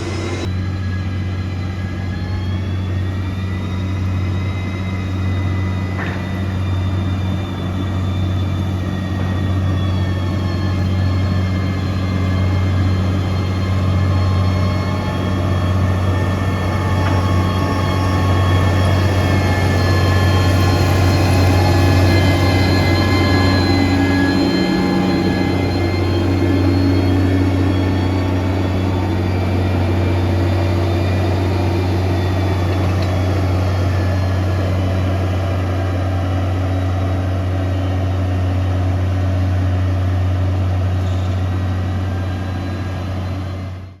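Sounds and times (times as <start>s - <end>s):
heavy machine engine droning: 0.0s - 44.0s.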